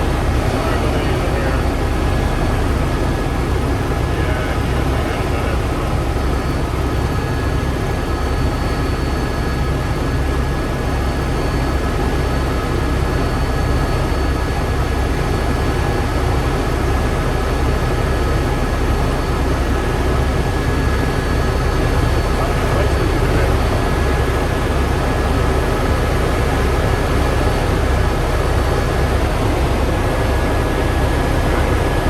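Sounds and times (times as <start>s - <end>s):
helicopter running: 0.0s - 32.0s.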